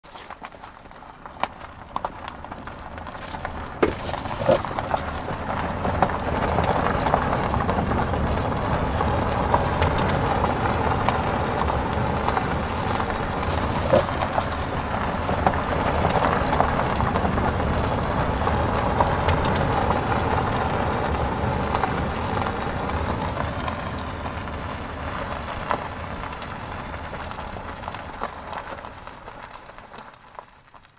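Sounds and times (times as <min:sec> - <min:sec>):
tyres crunching over gravel: 0:00.0 - 0:30.9.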